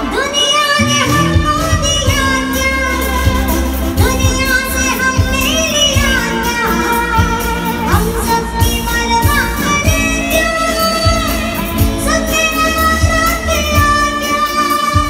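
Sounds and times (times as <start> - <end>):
live band with steady beat: 0.0 - 15.0
woman singing with vibrato: 0.0 - 15.0.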